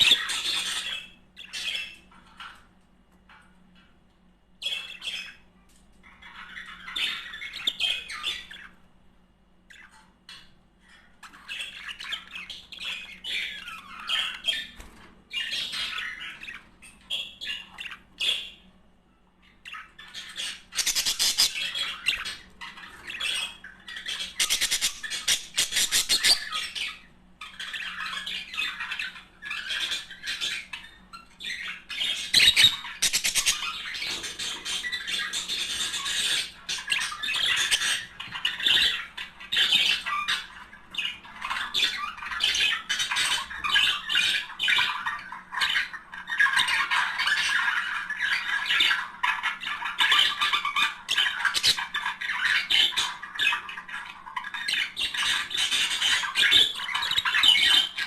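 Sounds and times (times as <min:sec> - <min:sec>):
budgerigars chattering and chirping: 0:00.0 - 0:03.9, 0:04.6 - 0:08.9, 0:09.7 - 0:18.8, 0:19.4 - 0:58.0.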